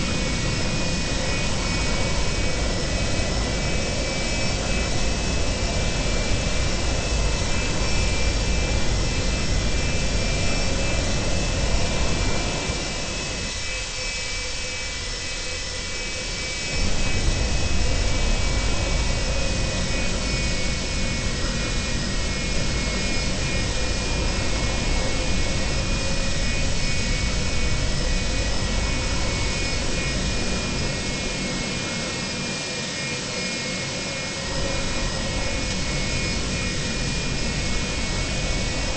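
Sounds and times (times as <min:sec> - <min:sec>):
jet engines running with whine: 0:00.0 - 0:38.9.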